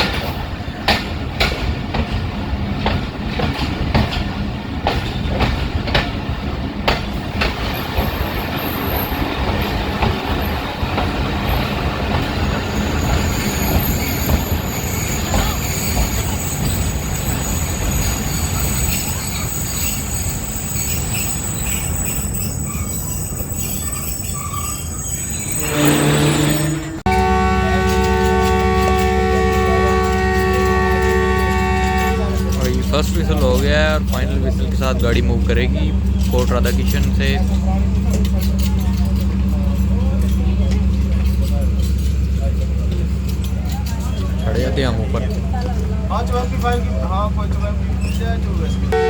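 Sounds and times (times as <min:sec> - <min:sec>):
train wheels clicking over rail joints: 0:00.0 - 0:49.0
train wheel and brake squeal: 0:07.4 - 0:49.0.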